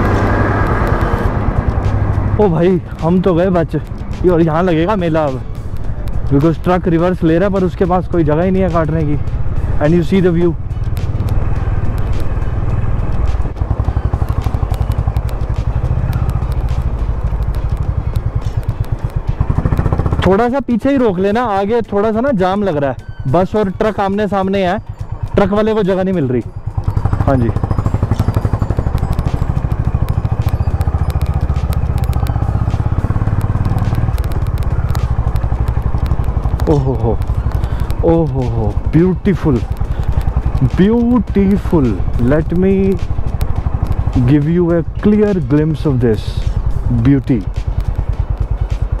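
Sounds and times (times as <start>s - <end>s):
sharp clicks: 0.0s - 20.5s, 23.8s - 49.0s
motorcycle engine at low revs: 0.0s - 22.2s, 23.8s - 49.0s.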